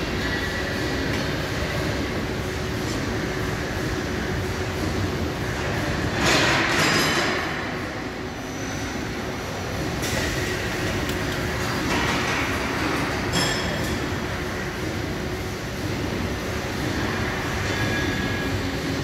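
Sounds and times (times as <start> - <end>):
bar feeder mechanical hum: 0.0 - 19.0.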